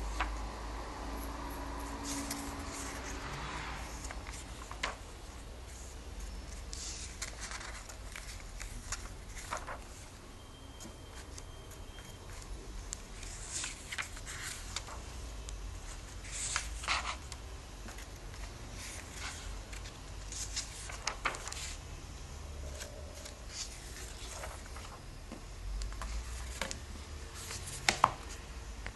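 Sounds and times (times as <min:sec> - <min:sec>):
low steady hum: 0:00.0 - 0:28.9
pages turning and rustling: 0:01.9 - 0:10.2, 0:10.8 - 0:21.8, 0:22.6 - 0:28.9.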